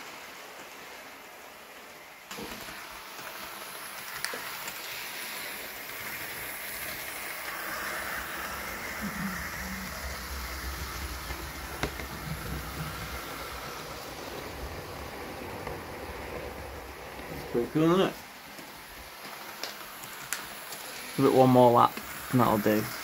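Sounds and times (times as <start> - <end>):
model train motor whirring: 2.3 - 23.0.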